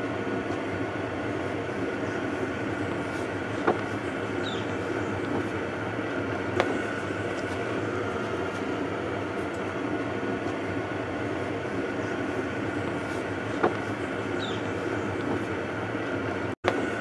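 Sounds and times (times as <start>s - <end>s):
gas burner roaring: 0.0s - 17.0s.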